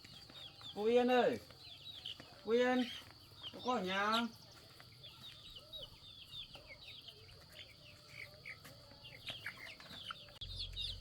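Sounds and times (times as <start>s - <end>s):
high bird chirps: 0.0s - 11.0s.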